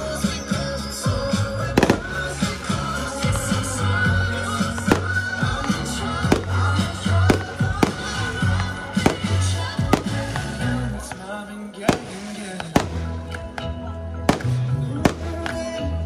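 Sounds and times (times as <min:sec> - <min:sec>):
loud music with bass: 0:00.0 - 0:16.0.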